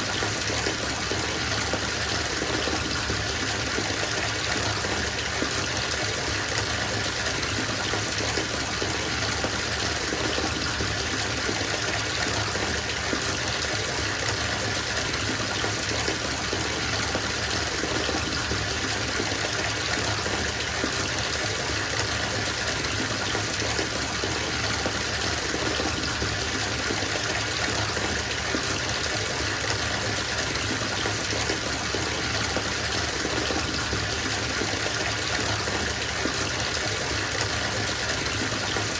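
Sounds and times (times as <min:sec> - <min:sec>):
tap water filling bathtub: 0:00.0 - 0:38.9.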